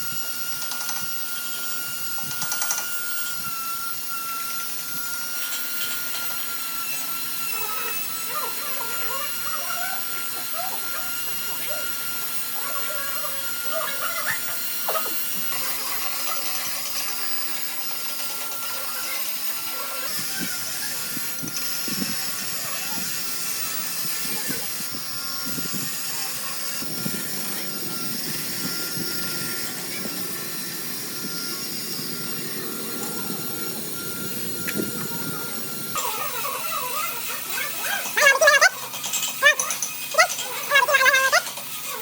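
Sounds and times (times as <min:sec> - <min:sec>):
thin steady whine: 0:00.0 - 0:42.0
workshop machine hiss: 0:00.0 - 0:42.0.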